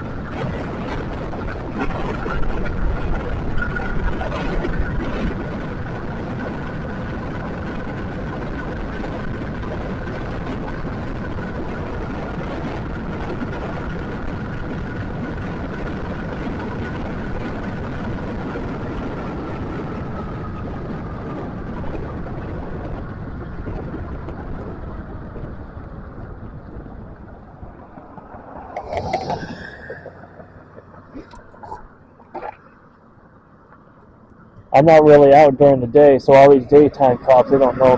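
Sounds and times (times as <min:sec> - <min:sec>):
wind and road rumble: 0:00.0 - 0:37.9.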